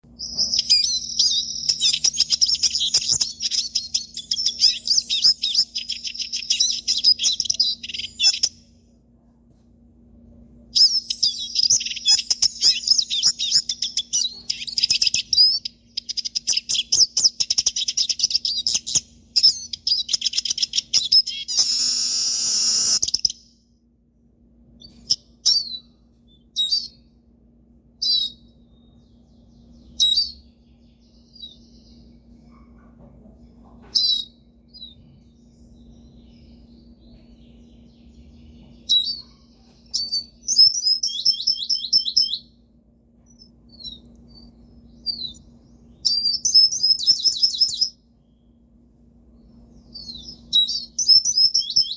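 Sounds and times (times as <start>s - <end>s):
bird twittering song: 0.0s - 8.9s, 10.7s - 23.8s, 24.7s - 27.2s, 28.0s - 42.6s, 43.2s - 48.7s, 49.3s - 51.9s
faint steady hum: 0.0s - 51.9s.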